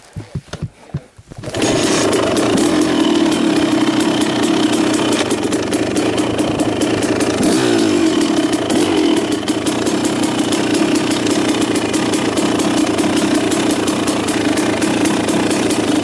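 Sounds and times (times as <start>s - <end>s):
fast even ticking: 1.4s - 16.0s
small engine revving: 1.4s - 16.0s.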